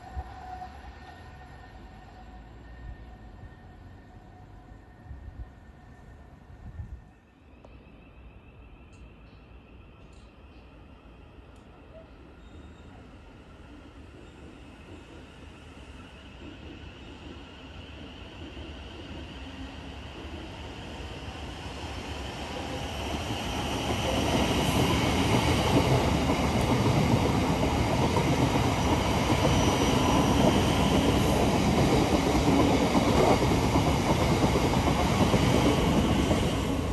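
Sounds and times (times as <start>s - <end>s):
train on rails: 0.0s - 36.9s.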